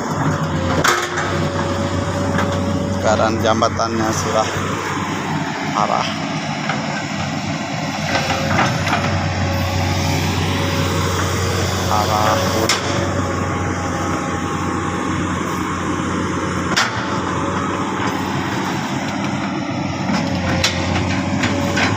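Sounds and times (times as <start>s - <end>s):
heavy machine engine running: 0.0s - 21.9s.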